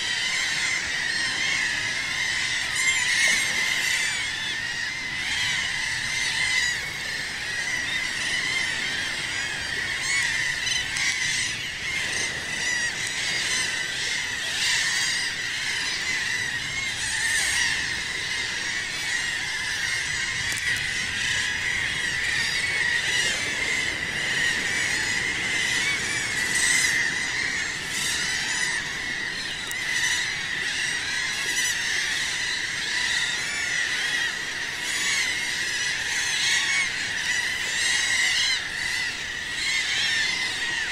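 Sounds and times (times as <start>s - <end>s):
seabird colony calling: 0.0s - 40.9s.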